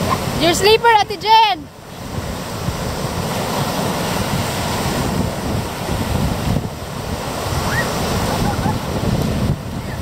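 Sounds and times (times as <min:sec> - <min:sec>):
rushing water: 0:00.0 - 0:10.0
wind buffeting microphone: 0:00.0 - 0:10.0.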